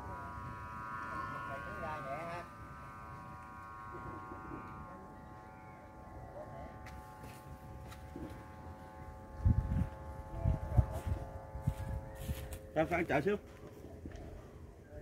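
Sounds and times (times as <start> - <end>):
faint buzzing hum: 0.0 - 15.0.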